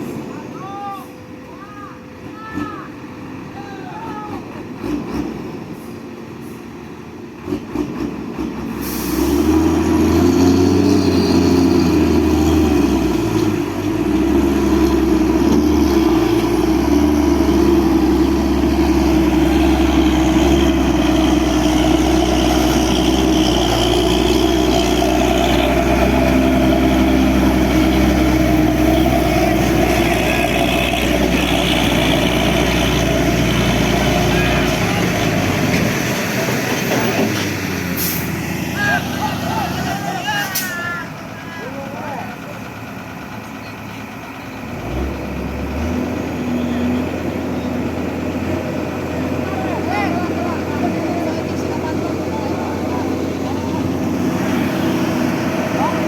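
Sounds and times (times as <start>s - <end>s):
diesel truck engine revving: 4.2s - 56.0s.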